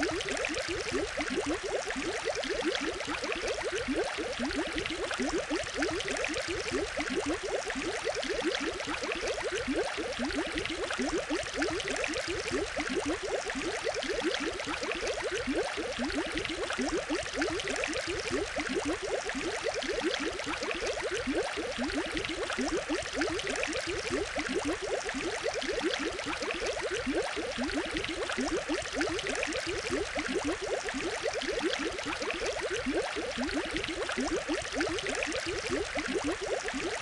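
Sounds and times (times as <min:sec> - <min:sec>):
water bubbling: 0:00.0 - 0:37.0.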